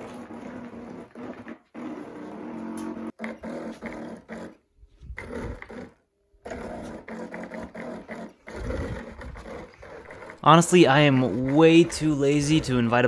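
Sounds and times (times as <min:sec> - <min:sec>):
stepper motors whining: 0:00.0 - 0:04.4, 0:05.1 - 0:13.0.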